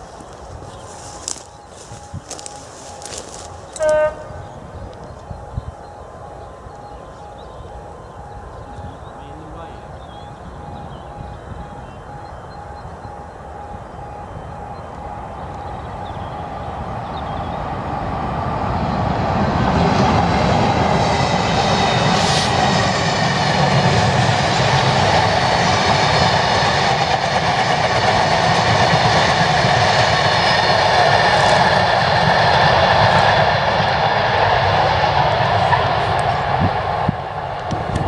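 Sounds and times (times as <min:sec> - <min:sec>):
diesel locomotive passing: 0:00.0 - 0:38.0.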